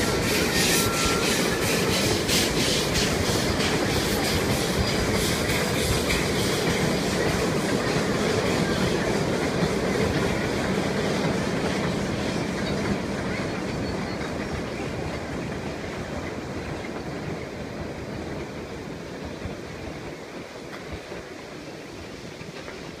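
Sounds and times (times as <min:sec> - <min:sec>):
steam train rumbling and clattering: 0:00.0 - 0:23.0.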